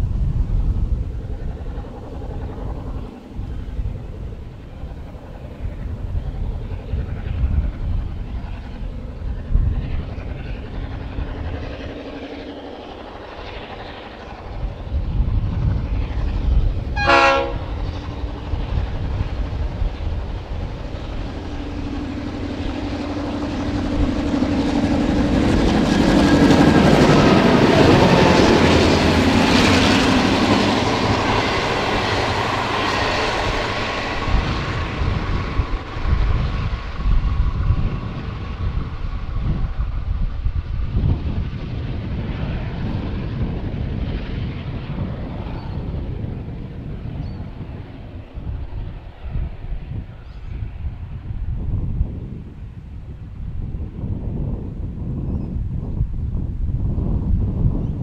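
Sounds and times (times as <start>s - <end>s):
diesel locomotive engines: 0.0s - 58.0s.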